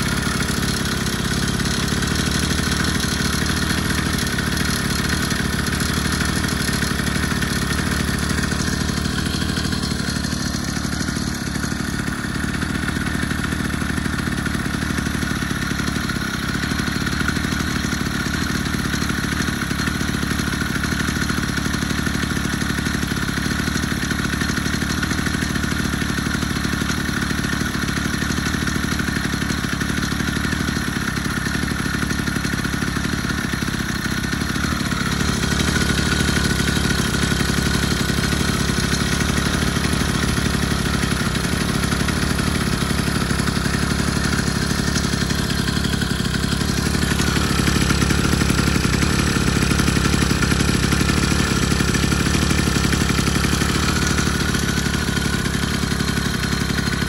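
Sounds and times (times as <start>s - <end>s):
two-stroke bicycle engine running: 0.0s - 57.0s.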